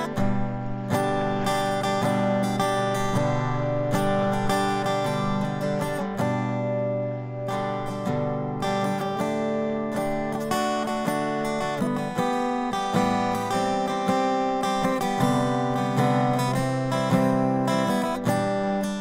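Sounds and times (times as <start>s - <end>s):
acoustic guitar instrumental: 0.0s - 19.0s.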